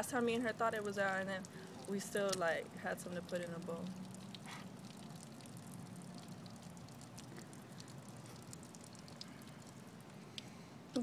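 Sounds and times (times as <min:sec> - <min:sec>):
small water drips: 0:00.0 - 0:11.0
water trickling: 0:00.0 - 0:11.0.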